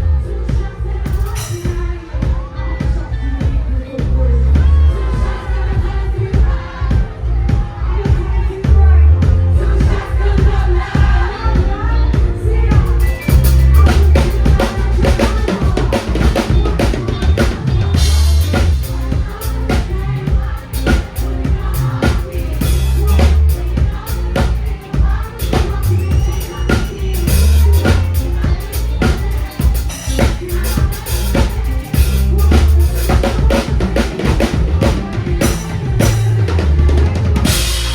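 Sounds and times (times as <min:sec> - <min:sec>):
band music: 0:00.0 - 0:37.9
heavy bass guitar line: 0:00.0 - 0:37.9
drum kit playing: 0:00.5 - 0:37.9.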